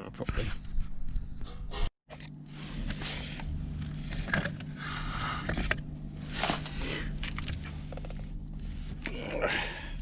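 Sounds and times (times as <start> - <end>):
steady low hum: 0.6 - 10.0.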